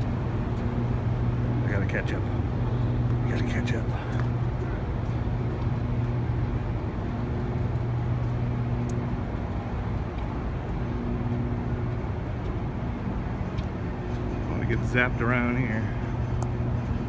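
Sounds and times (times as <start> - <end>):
rushing background noise: 0.0 - 17.0
transformer electrical hum: 0.0 - 17.0.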